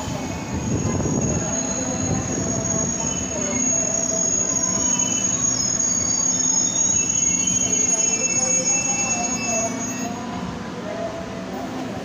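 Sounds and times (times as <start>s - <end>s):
electric train running with whine: 0.0s - 11.9s
wheel squeals: 0.1s - 10.3s.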